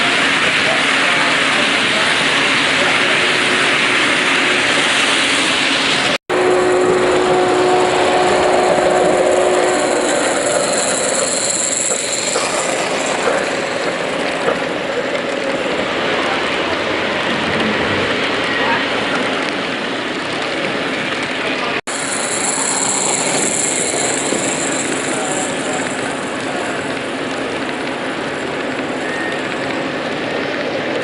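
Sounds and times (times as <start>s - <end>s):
model train wheels clicking: 0.0s - 17.7s, 19.1s - 31.0s
steady tone: 0.0s - 19.2s, 21.9s - 28.5s
hall noise: 0.0s - 31.0s.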